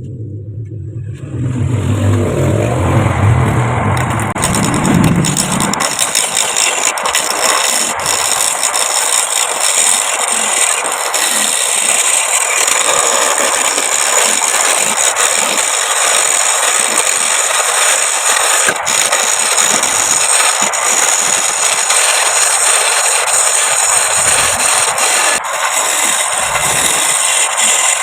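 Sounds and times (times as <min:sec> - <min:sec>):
lathe high whine: 0:01.1 - 0:28.0
wood lathe rasping: 0:04.0 - 0:28.0.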